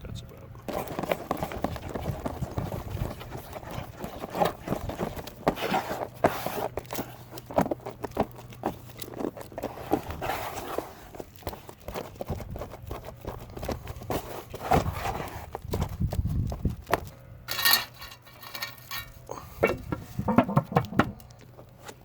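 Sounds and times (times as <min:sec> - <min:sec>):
plastic spreader tapping and scraping: 0:00.7 - 0:22.0.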